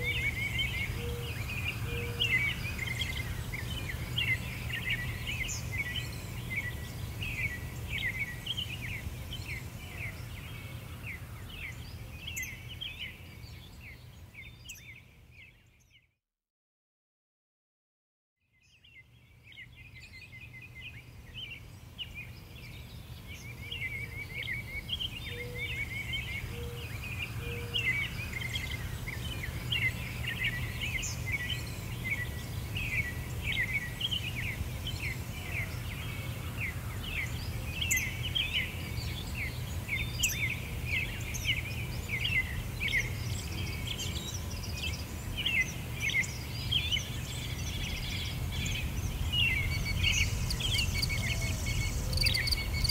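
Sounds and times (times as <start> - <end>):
small birds chirping: 0.0 - 16.1, 18.6 - 52.9.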